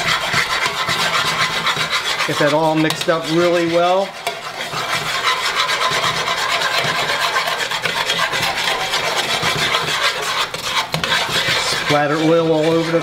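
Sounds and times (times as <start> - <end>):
metal tongs scraping pot: 0.0 - 13.0.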